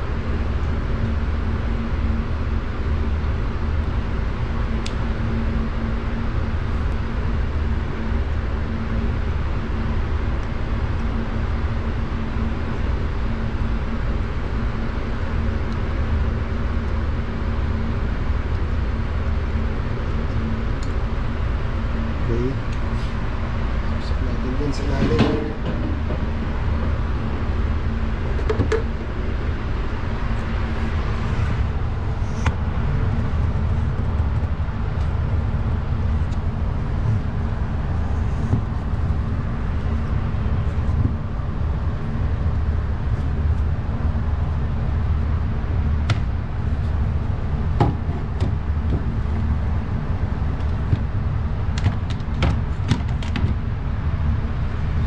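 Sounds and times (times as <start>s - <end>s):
refrigerator compressor humming: 0.0s - 55.0s.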